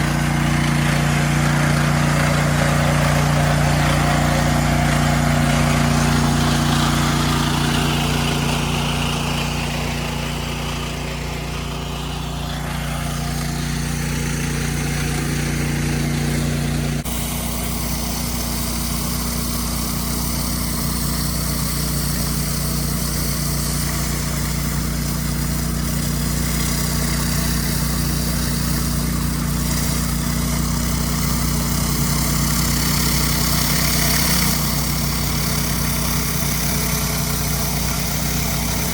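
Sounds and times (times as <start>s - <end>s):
high-pressure water spraying: 0.0s - 38.9s
pressure washer engine running: 0.0s - 38.9s.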